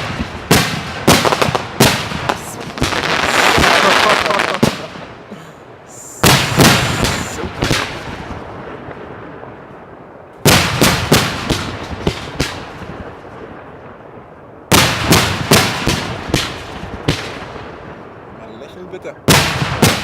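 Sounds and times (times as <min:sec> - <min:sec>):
fireworks banging: 0:00.0 - 0:14.1, 0:14.7 - 0:20.0.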